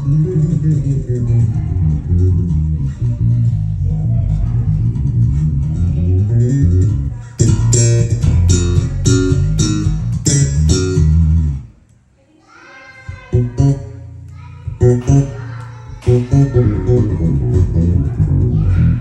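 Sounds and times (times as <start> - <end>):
electric bass notes: 0.0 - 11.9, 13.2 - 19.0.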